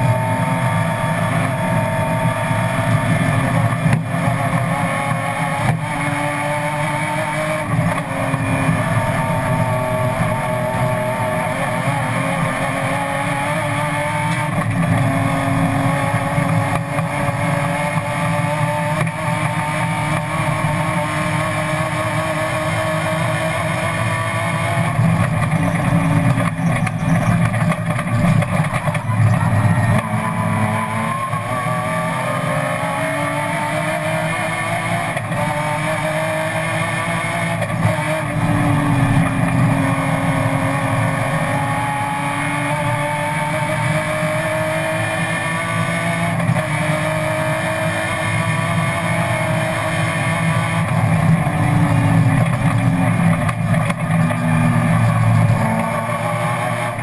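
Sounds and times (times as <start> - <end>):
low road and drivetrain rumble: 0.0 - 57.0
race car engine revving high: 0.0 - 57.0.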